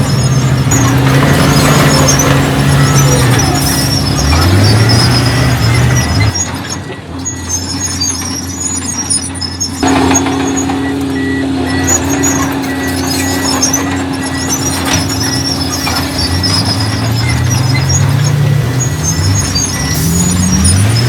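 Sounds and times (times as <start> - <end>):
heavy machinery diesel engines: 0.0 - 21.0.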